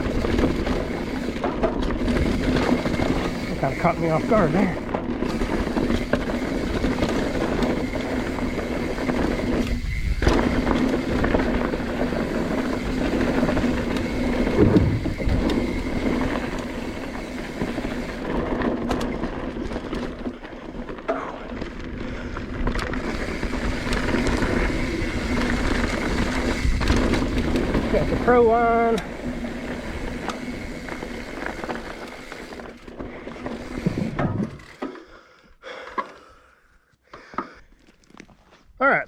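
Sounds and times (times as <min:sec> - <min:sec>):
bike rattling: 0:00.0 - 0:36.4
bike tyre noise on dirt trail: 0:00.0 - 0:38.8.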